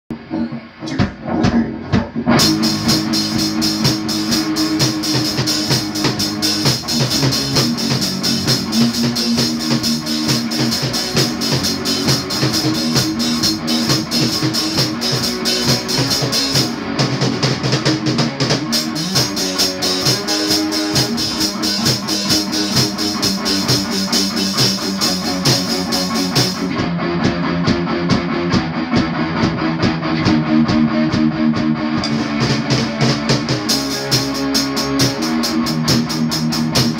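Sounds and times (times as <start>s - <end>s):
electric guitar notes: 0.1s - 36.9s
rock drum kit with cymbals: 0.8s - 36.9s.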